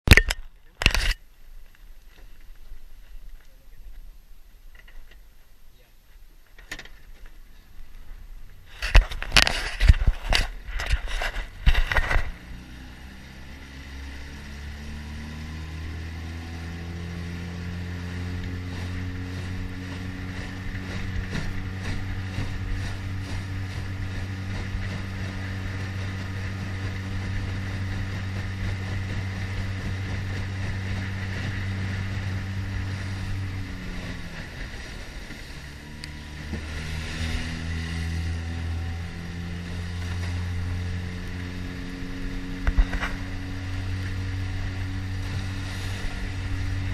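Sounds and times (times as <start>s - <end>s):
outboard motor running: 0.1s - 46.9s.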